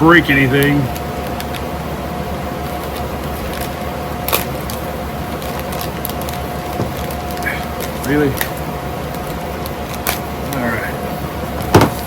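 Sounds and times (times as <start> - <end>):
room fans whirring: 0.0 - 12.0.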